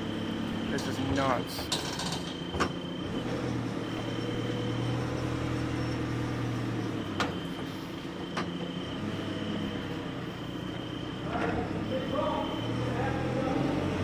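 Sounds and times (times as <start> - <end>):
heavy machine engine humming: 0.0 - 14.0.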